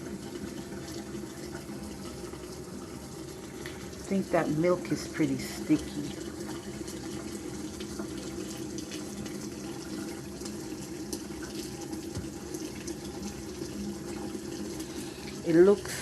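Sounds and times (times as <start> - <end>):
water running from tap: 0.0 - 16.0.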